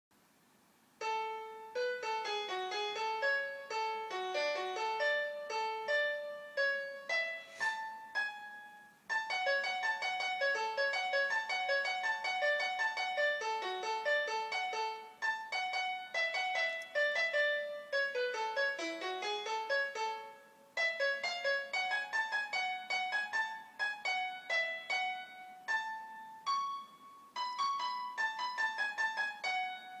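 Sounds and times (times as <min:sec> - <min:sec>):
piano melody over chords: 0:01.0 - 0:30.0.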